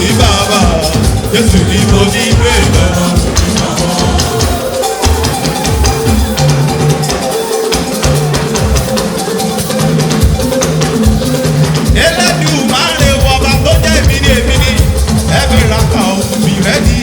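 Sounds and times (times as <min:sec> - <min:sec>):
voices singing: 0:00.0 - 0:10.0, 0:11.4 - 0:17.0
drums and shakers: 0:00.0 - 0:17.0.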